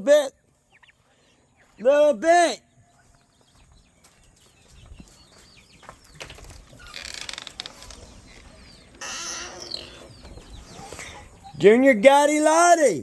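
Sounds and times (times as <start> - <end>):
poultry chirping: 0.0 - 12.8.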